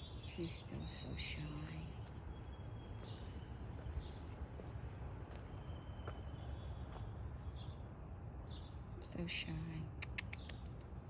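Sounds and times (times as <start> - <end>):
bird chirping: 0.0 - 7.8, 8.4 - 11.0.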